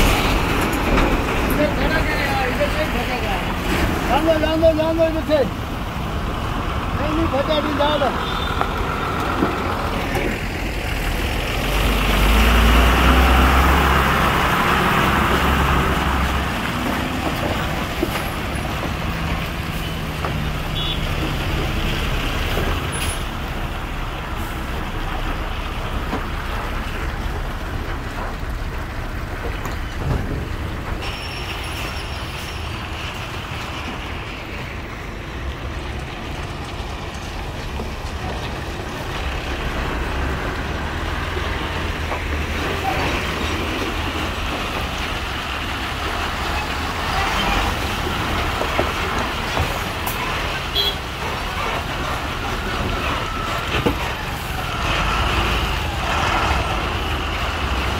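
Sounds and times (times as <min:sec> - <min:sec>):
road noise hiss: 0:00.0 - 0:57.9
truck engine drone: 0:00.0 - 0:57.9.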